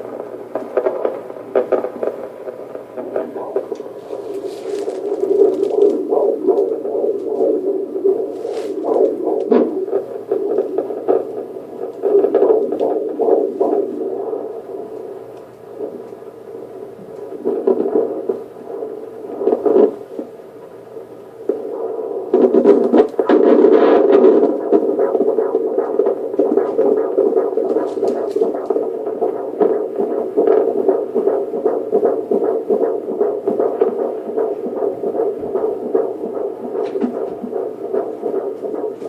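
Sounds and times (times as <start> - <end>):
fetal heartbeat whooshing pulse: 0.0 - 39.0.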